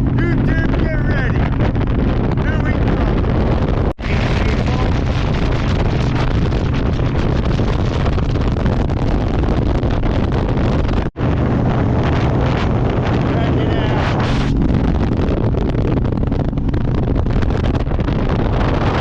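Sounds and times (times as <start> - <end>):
motorcycle engine drone: 0.0 - 19.0
wind noise on microphone: 0.0 - 19.0.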